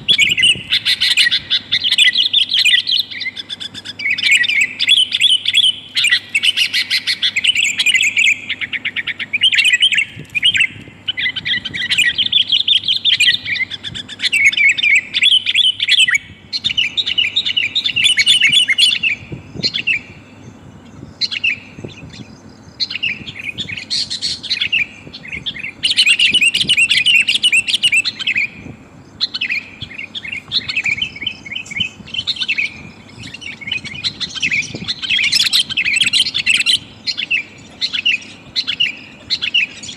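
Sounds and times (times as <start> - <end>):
bird chirping and chattering: 0.0 - 39.9.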